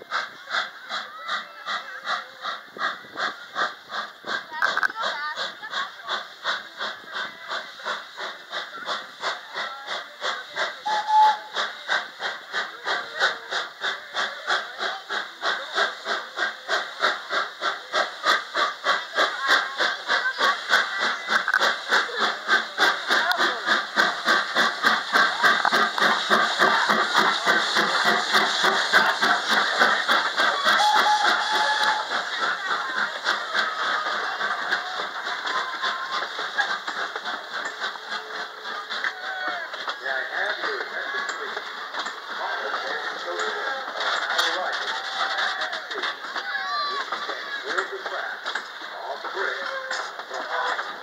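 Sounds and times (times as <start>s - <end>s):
steam locomotive chuffing: 0.0s - 51.0s.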